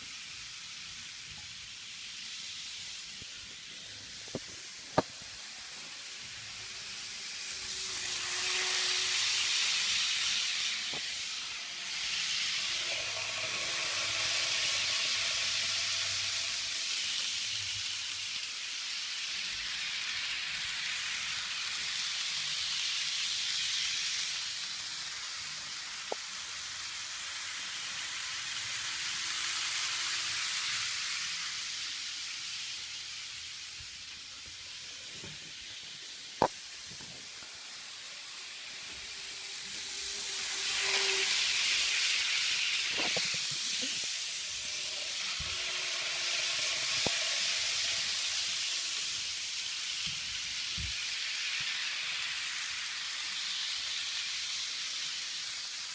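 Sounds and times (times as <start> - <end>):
model train whirring hiss: 0.0 - 55.9.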